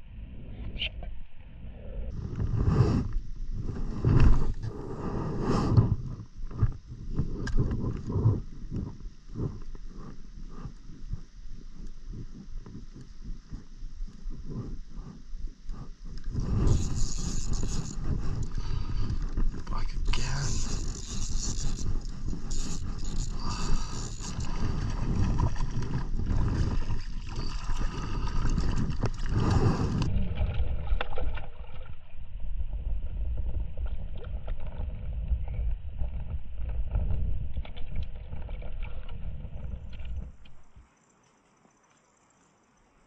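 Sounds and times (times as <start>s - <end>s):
wind rumbling on microphone: 0.0s - 40.8s
water lapping at kayak: 2.1s - 43.0s.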